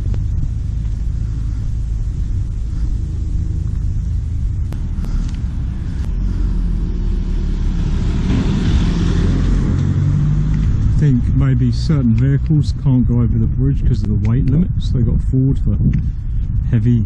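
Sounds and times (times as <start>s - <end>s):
car approaching: 0.0s - 17.0s
low rumble of motor vehicle: 0.0s - 17.0s.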